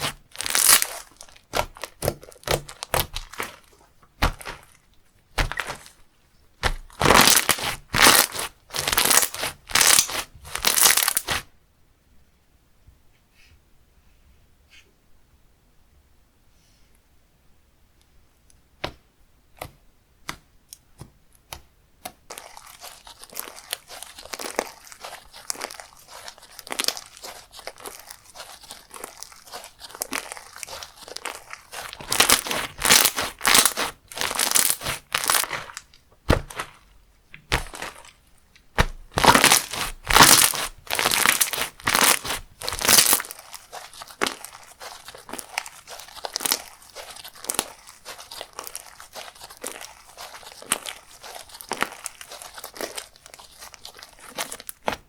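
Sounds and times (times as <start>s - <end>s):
slime crackling and popping: 0.0s - 6.0s, 6.6s - 11.5s, 21.5s - 55.0s.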